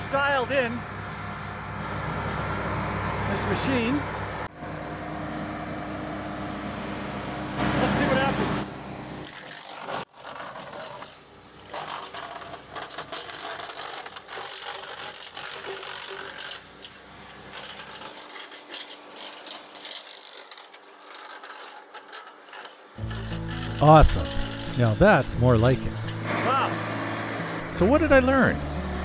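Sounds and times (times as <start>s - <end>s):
wood chipper crunching branch: 0.0s - 4.4s, 5.1s - 29.0s.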